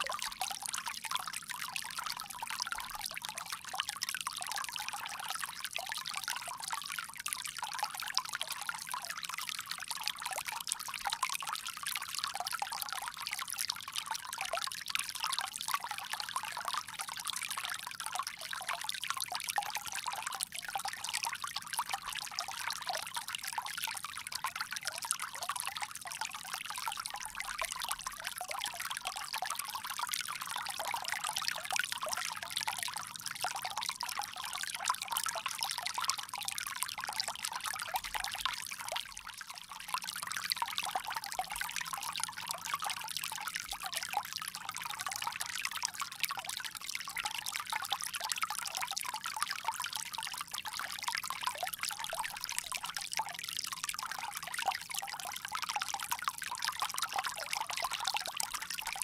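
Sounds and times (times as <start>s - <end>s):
water pouring from a spout: 0.0s - 59.0s.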